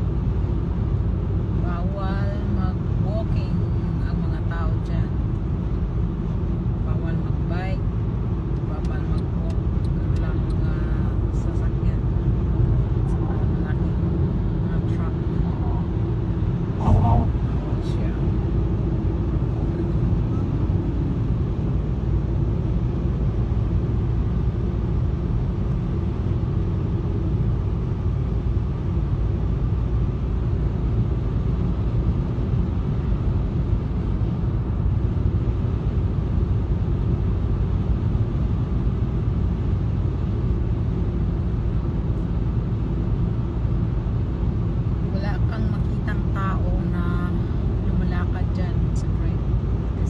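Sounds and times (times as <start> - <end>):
car road and tyre noise: 0.0 - 50.0.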